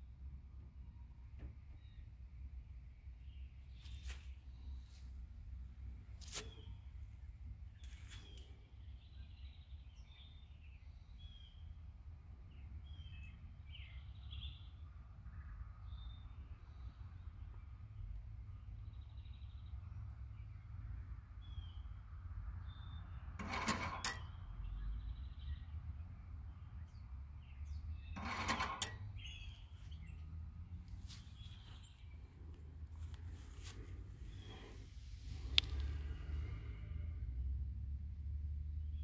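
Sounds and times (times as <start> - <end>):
low outdoor rumble: 0.0 - 39.0.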